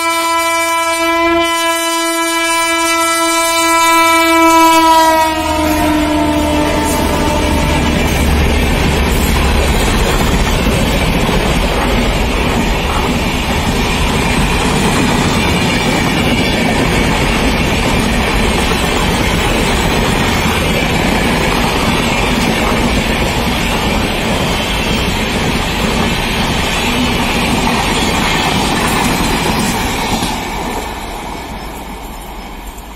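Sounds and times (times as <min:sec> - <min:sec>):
train wheels rushing on rails: 0:00.0 - 0:32.9.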